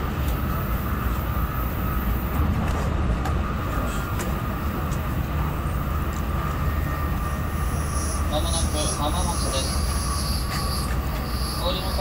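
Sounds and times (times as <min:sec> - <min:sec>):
faint steady whine: 0:00.0 - 0:12.0
train carriage low rumble: 0:00.0 - 0:12.0.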